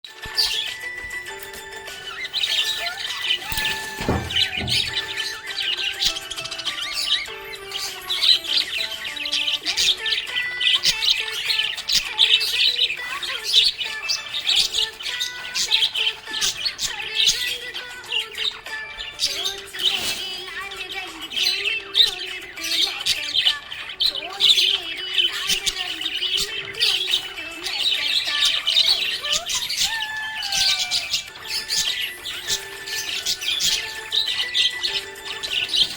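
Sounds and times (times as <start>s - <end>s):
background music with held notes: 0.0s - 35.9s
parrots chirping and chattering: 0.1s - 35.9s.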